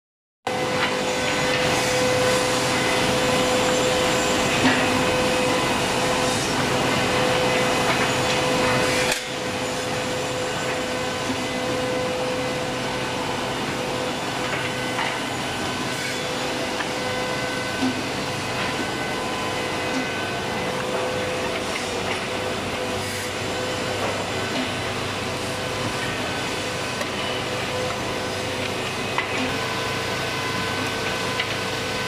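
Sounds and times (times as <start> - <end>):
machine motor hum and whine: 0.5 - 32.0.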